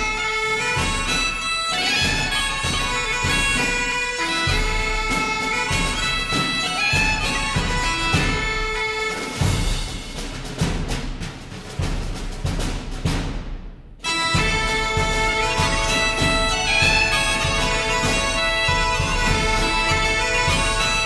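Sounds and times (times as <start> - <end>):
bagpipe tune: 0.0 - 10.2, 14.0 - 21.0.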